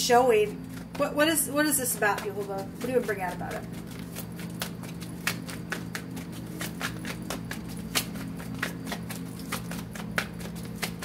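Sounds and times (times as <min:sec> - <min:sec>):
cards being shuffled: 0:00.5 - 0:11.0.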